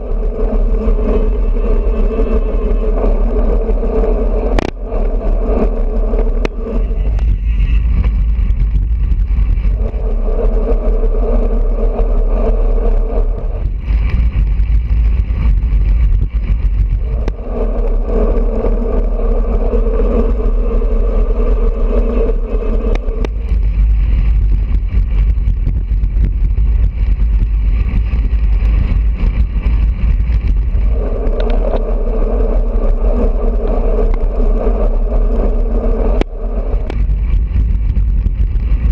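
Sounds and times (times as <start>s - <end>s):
steady hum: 0.0s - 38.9s
wind rumbling over microphone: 0.0s - 38.9s.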